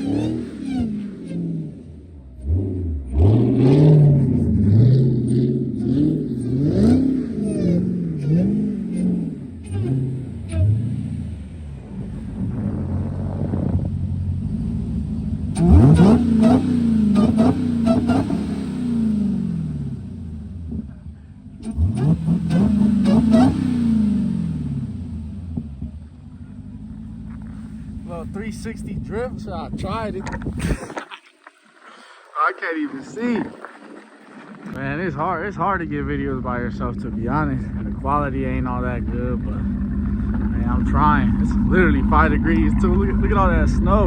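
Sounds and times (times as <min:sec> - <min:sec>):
car engine revving hard: 0:00.0 - 0:31.0, 0:35.7 - 0:44.0.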